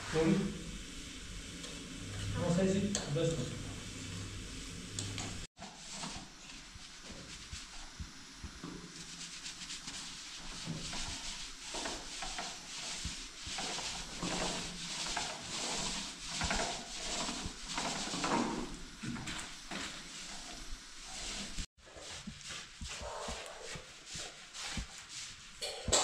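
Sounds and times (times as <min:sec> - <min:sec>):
paintbrush swishing on wall: 0:00.0 - 0:26.0.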